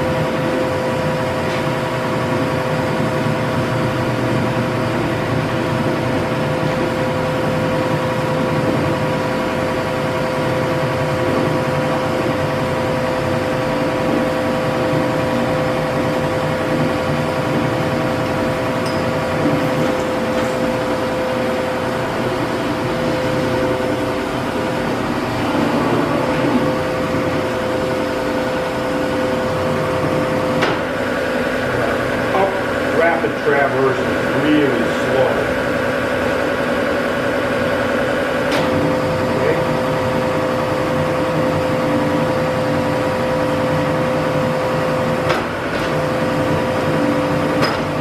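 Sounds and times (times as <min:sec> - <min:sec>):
shop machinery humming: 0:00.0 - 0:48.0.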